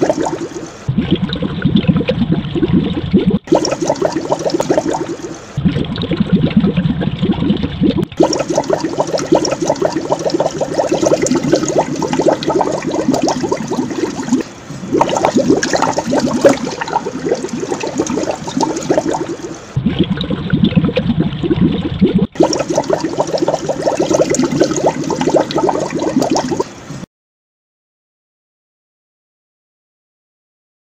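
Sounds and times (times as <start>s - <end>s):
aquarium air bubbles bubbling: 0.0s - 27.0s.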